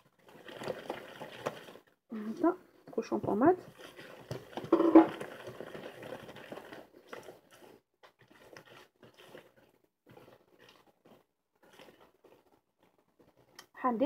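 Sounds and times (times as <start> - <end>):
fingers squishing sticky dough: 0.0 - 2.0, 3.2 - 13.8.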